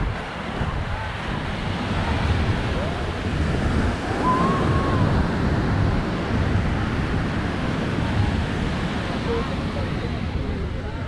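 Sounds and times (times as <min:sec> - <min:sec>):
ocean surf on beach: 0:00.0 - 0:11.0
wind buffeting microphone: 0:00.0 - 0:11.0.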